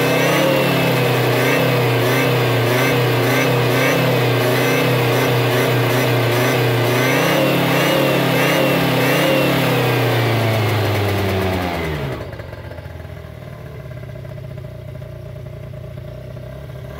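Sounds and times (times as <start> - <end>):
scooter engine revving: 0.0 - 16.9.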